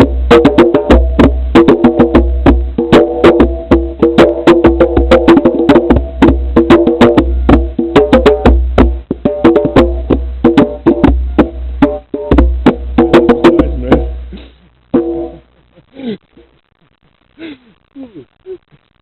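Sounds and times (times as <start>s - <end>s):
fast struck percussion notes: 0.0s - 15.6s.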